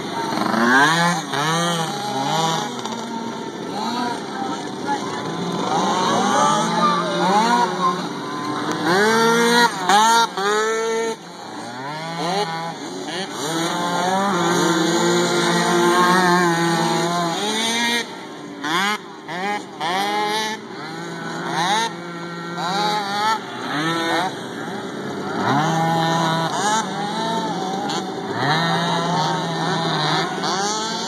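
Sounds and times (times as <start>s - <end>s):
quad engines racing: 0.0s - 31.0s.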